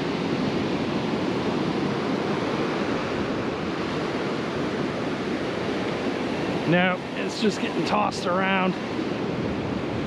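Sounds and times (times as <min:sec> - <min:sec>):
ocean surf breaking: 0:00.0 - 0:10.0.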